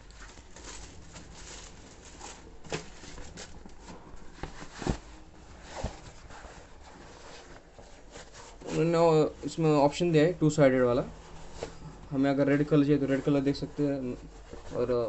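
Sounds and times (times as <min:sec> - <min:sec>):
fabric rubbing and rustling: 0:00.0 - 0:15.0.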